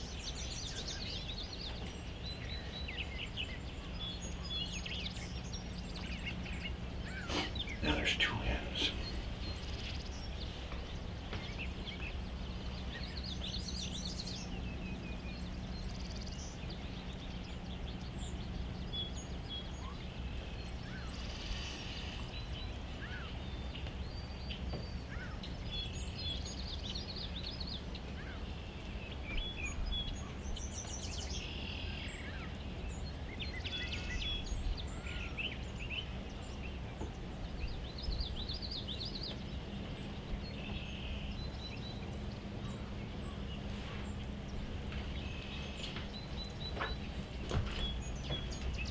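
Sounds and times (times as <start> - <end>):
low background rumble: 0.0 - 48.9
songbirds chirping and trilling: 0.0 - 48.9.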